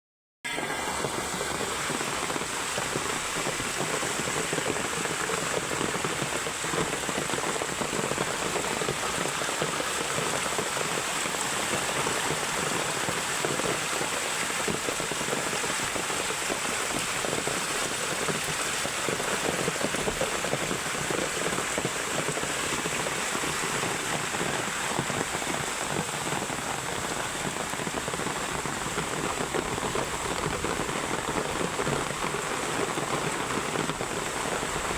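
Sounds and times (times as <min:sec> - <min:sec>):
heavy rain pouring: 0:00.5 - 0:34.9.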